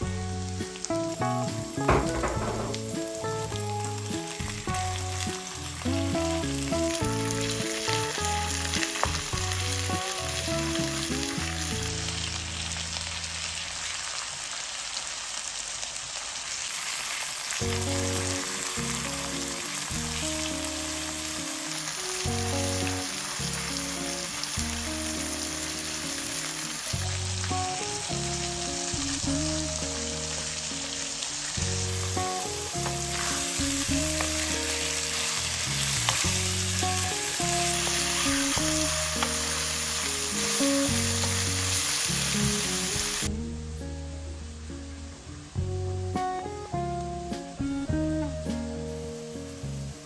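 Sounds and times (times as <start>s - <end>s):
instrumental background music: 0.0s - 13.3s, 17.5s - 50.0s
food sizzling in a pan: 0.0s - 50.0s.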